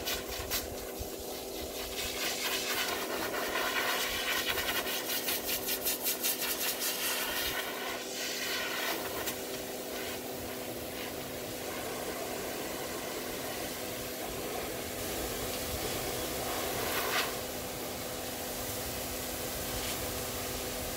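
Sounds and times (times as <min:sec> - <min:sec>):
grooming dryer blowing air: 0:00.0 - 0:20.9.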